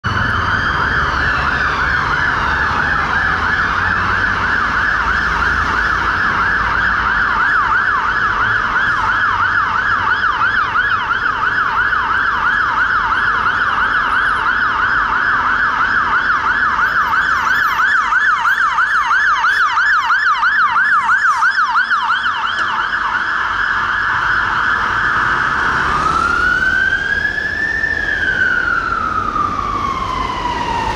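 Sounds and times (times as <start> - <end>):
fire truck siren: 0.0 - 30.9
traffic rumble: 0.0 - 30.9.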